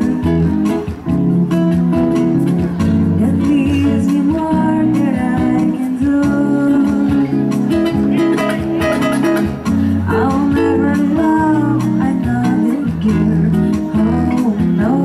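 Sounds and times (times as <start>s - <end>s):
bass: 0.0s - 15.0s
guitar playing: 0.0s - 15.0s
steady percussion beat: 0.0s - 15.0s.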